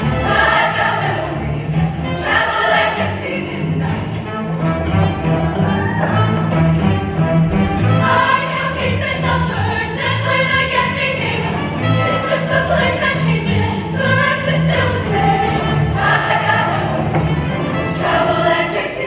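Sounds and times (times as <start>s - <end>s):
women's choir singing: 0.0s - 4.3s, 7.9s - 19.0s.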